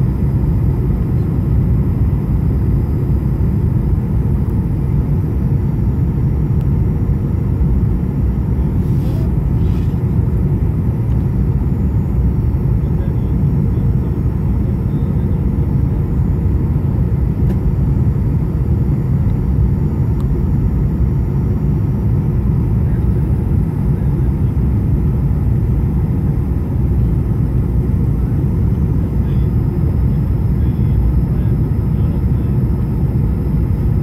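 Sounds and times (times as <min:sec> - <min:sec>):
airplane cabin engine rumble: 0:00.0 - 0:34.0.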